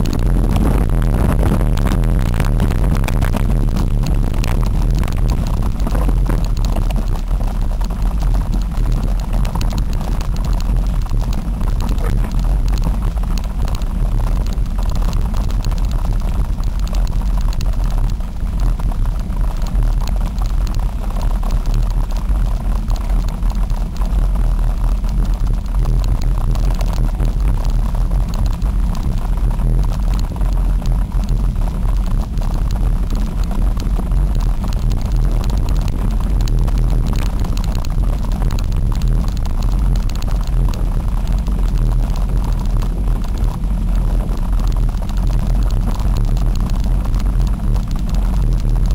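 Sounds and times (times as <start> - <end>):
low rumble: 0.0 - 48.9
wind buffeting microphone: 0.0 - 48.9.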